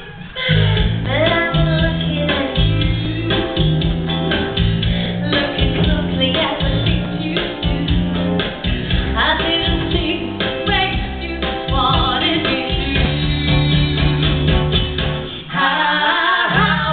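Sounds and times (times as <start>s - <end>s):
upbeat pop music with singing: 0.0s - 16.9s.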